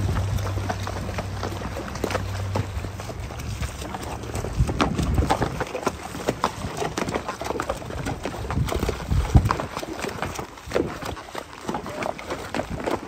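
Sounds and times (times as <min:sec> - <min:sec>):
hooves clopping on rocks: 0:00.0 - 0:13.0
water splashing: 0:00.0 - 0:13.0.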